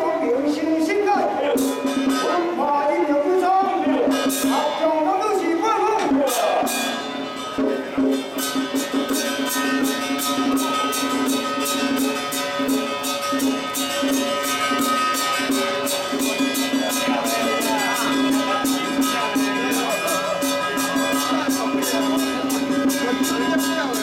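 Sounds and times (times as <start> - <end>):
rapid percussion strikes: 0.0 - 24.0.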